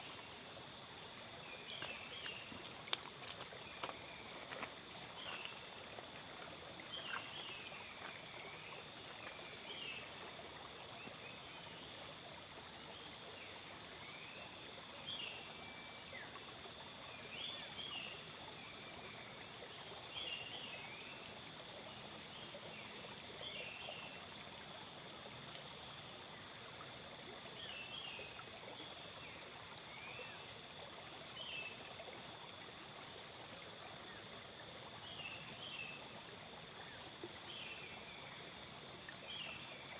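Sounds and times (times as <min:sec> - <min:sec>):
insect drone with trills: 0:00.0 - 0:39.9.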